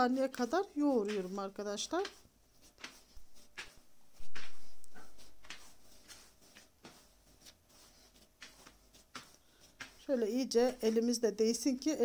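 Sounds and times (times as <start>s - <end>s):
hands kneading oily dough: 0.0s - 12.0s.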